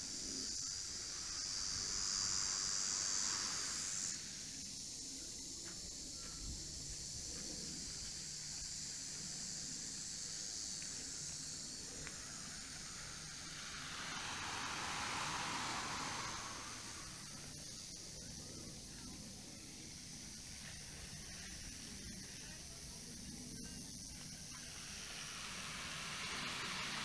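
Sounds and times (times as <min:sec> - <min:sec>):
insect chorus buzzing: 0:00.0 - 0:27.0.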